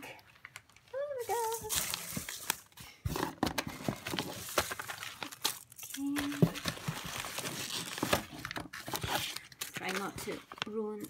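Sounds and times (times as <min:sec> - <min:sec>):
wrapping paper rustling and crinkling: 0:00.9 - 0:11.0.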